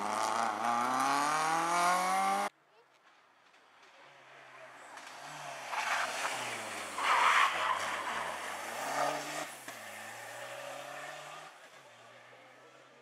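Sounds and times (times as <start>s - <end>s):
rally car passing at speed: 0.0s - 2.5s, 4.2s - 13.0s.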